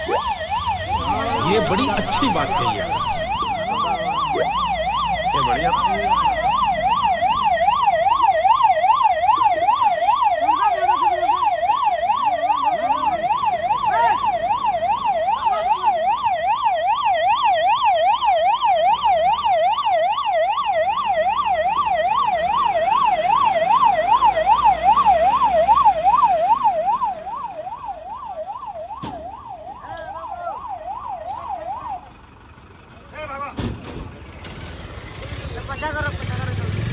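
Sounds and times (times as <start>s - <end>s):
electronic fire engine siren: 0.0s - 32.4s.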